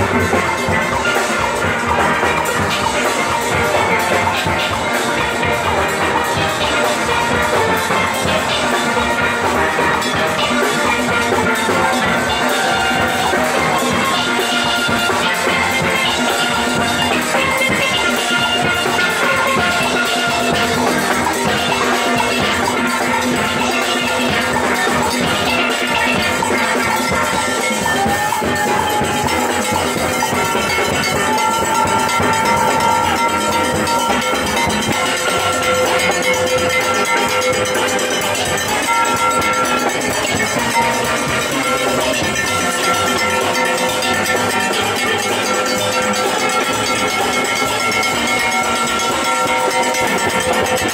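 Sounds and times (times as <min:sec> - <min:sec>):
drums and percussion beat: 0:00.0 - 0:50.9
steelband playing: 0:00.0 - 0:50.9.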